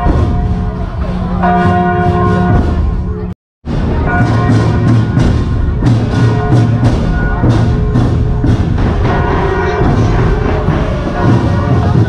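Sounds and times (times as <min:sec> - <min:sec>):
drums beating steady rhythm: 0:00.0 - 0:12.0.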